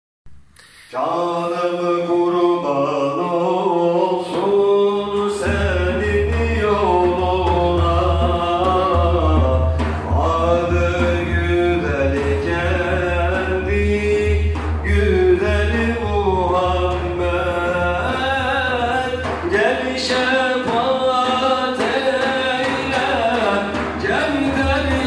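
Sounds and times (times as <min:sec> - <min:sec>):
man singing into a microphone: 0:00.6 - 0:25.0.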